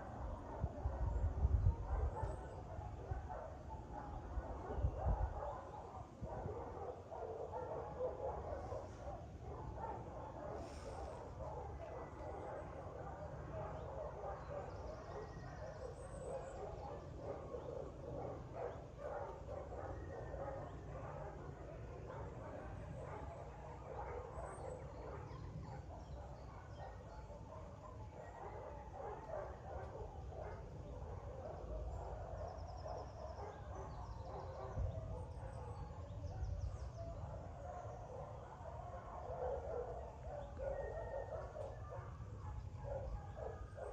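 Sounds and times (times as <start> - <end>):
dogs barking: 0.0 - 43.9.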